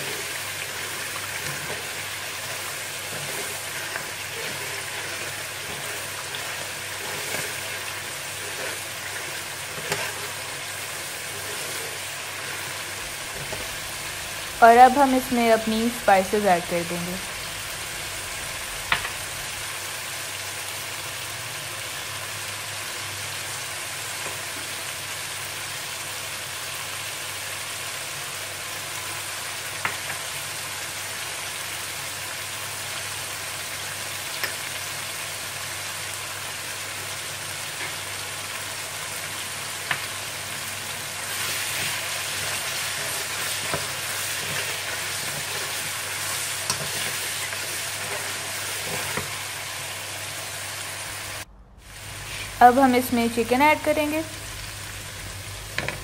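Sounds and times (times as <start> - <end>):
masala sizzling in a pan: 0.0 - 56.0.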